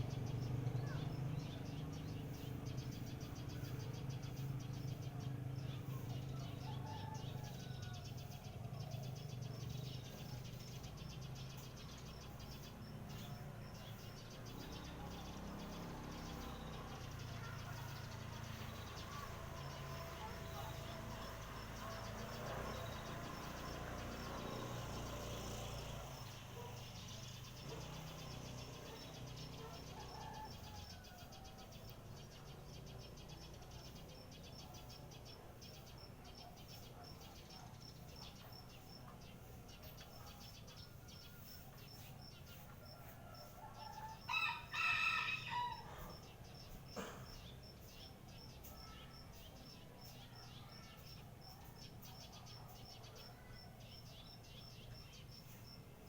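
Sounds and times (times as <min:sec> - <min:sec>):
faint high-pitched chirping: 0:00.0 - 0:56.0.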